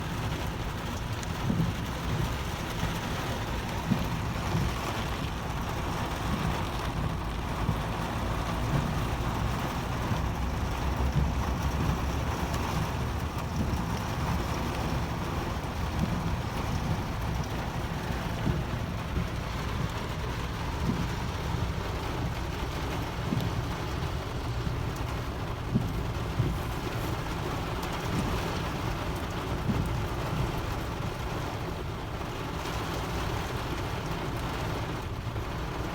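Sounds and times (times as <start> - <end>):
heavy rain falling: 0.0 - 35.9.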